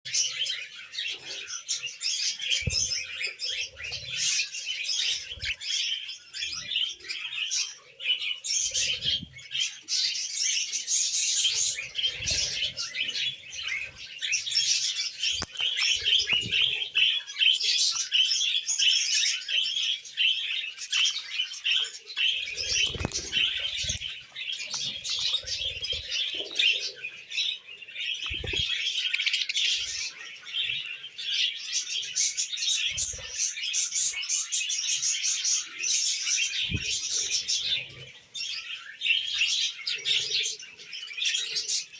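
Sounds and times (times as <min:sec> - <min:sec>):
birds chirping and chattering: 0:00.0 - 0:41.9.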